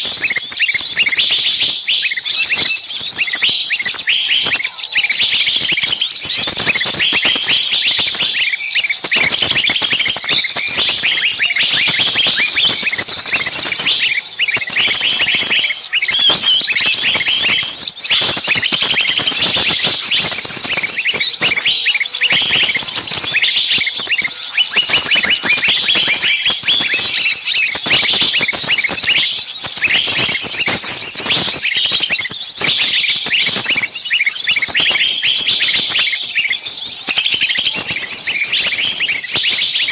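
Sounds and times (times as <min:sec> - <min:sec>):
songbirds chirping and shrieking: 0:00.0 - 0:39.9.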